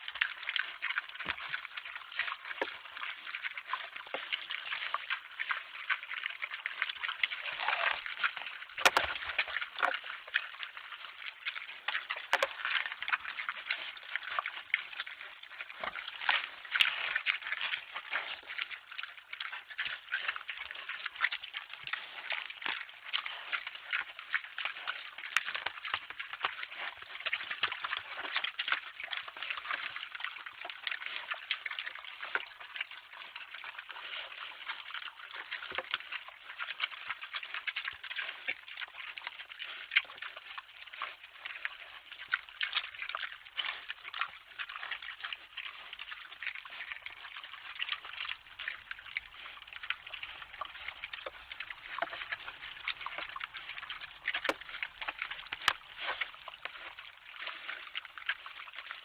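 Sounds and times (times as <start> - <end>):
animals eating with crunching: 0.0 - 59.0.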